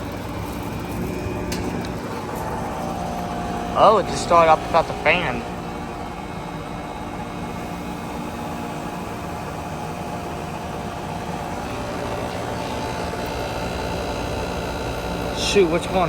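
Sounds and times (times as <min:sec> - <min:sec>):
air conditioner compressor humming: 0:00.0 - 0:16.0.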